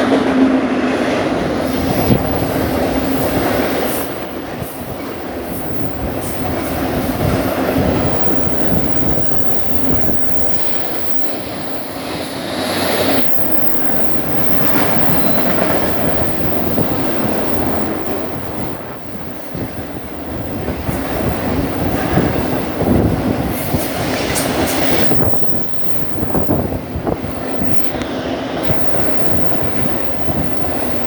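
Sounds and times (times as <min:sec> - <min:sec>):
train wheels on rail: 0:00.0 - 0:31.0.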